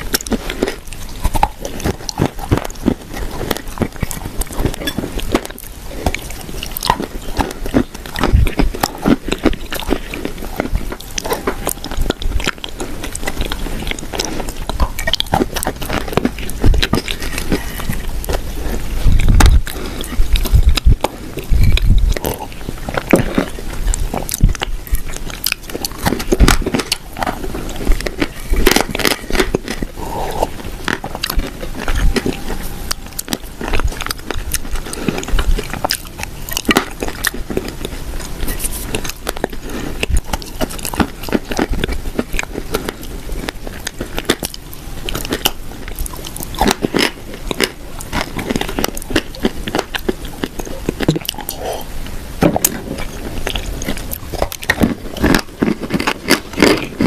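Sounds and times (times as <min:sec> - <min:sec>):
cookies crunching and chewing: 0:00.0 - 0:57.0.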